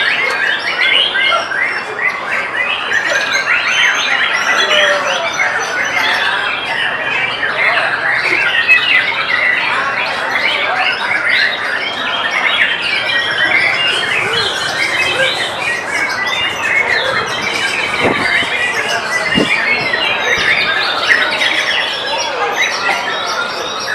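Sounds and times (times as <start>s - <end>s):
songbirds singing: 0.0s - 23.9s.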